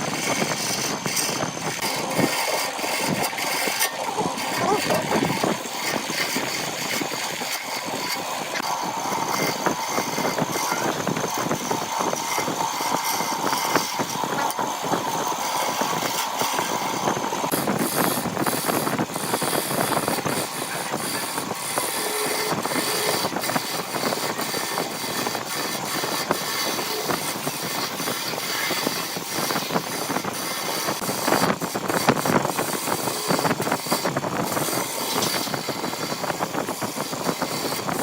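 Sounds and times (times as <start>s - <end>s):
lathe motor tone: 0.0s - 38.0s
tool scraping spinning wood: 0.0s - 38.0s.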